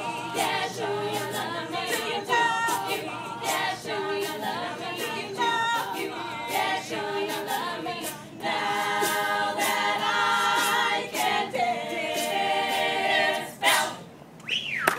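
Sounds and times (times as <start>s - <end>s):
women singing in harmony: 0.0s - 14.1s.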